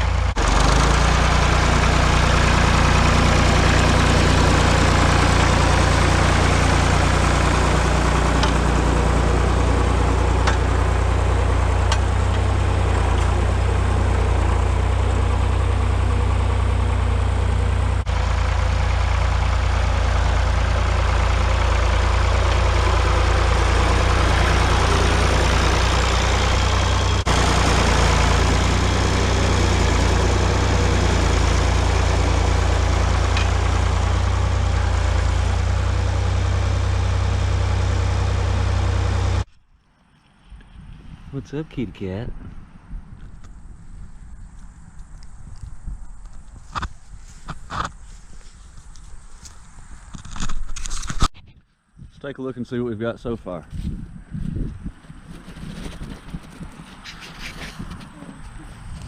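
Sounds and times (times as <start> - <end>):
tractor engine running: 0.0 - 39.8, 41.4 - 51.4, 53.1 - 59.0.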